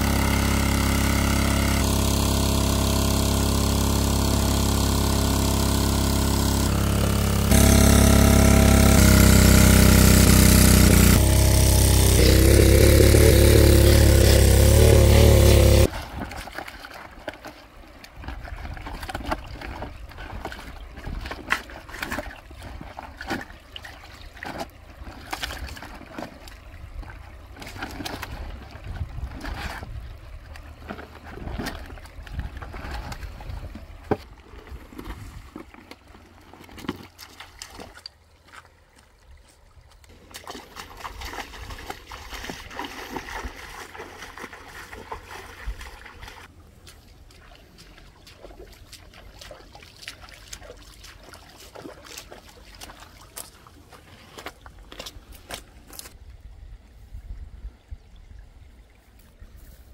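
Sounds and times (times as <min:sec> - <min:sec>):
water pump engine running: 0:00.0 - 0:38.2, 0:40.1 - 0:56.2
water splashing: 0:00.0 - 0:56.2.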